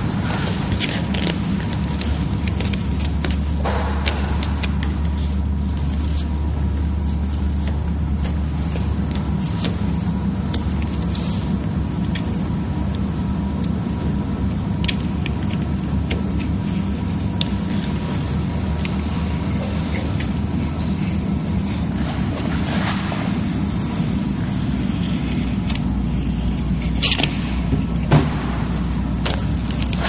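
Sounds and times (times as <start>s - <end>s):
faint steady whine: 0.0s - 30.0s
low rumbling hum: 0.0s - 30.0s.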